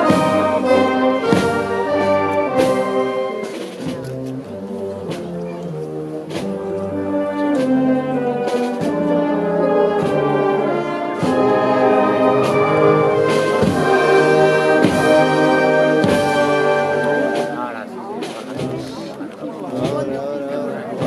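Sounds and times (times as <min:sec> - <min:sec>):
percussion strikes: 0:00.0 - 0:20.3
brass band playing a slow march: 0:00.0 - 0:21.0.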